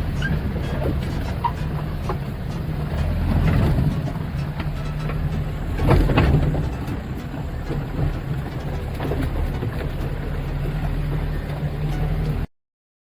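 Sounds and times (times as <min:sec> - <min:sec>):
knocks and clunks: 0:00.0 - 0:12.4
engine running at low revs: 0:00.0 - 0:12.5.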